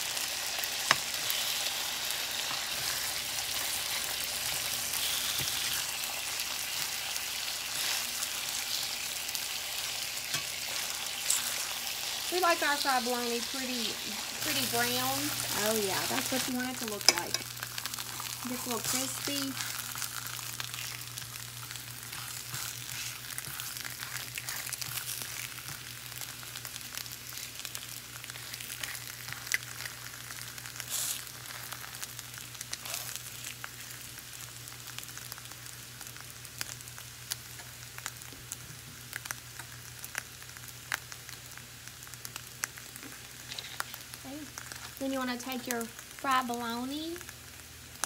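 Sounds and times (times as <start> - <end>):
meat sizzling in oil: 0.0 - 48.0.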